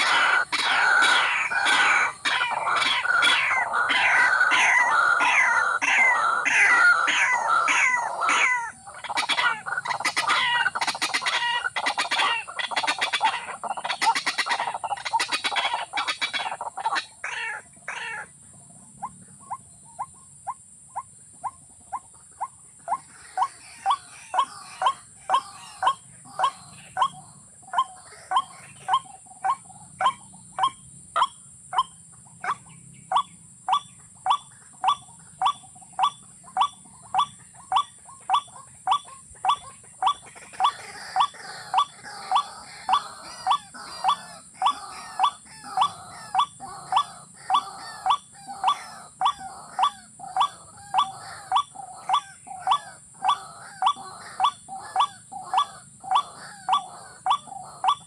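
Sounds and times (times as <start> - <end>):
bird calling: 0.0 - 18.4, 19.0 - 58.0.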